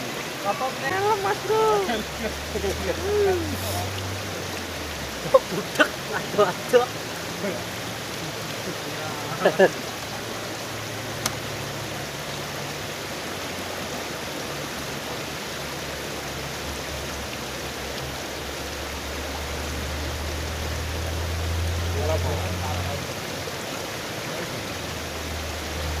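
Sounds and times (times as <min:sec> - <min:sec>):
river water rushing through fish trap: 0:00.0 - 0:26.0.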